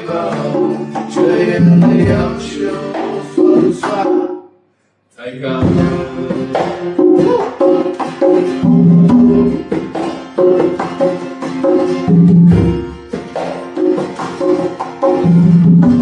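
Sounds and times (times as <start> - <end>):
pop song instrumental: 0.0 - 4.6, 5.4 - 16.0.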